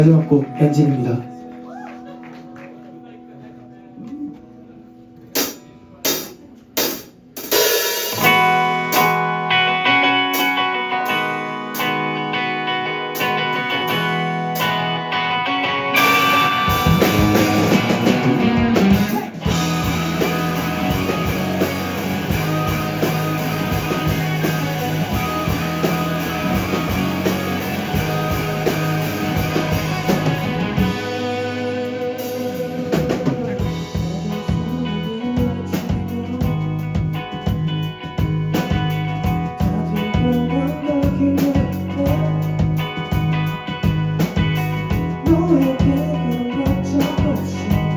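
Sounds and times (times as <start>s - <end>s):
electric guitar: 0.0s - 47.9s
drum kit: 5.2s - 47.9s.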